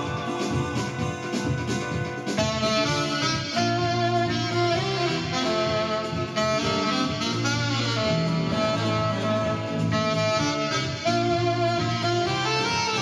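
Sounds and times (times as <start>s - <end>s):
alto saxophone jazzy melody: 0.0s - 13.0s
bass line accompaniment: 0.0s - 13.0s.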